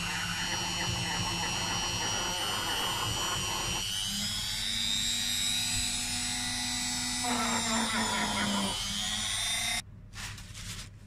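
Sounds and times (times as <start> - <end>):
rotary tool whining: 0.0 - 9.8.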